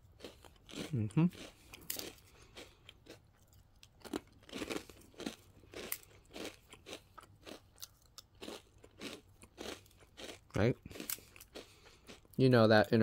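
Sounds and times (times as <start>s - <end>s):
cookie crackling and crunching: 0.0s - 13.0s.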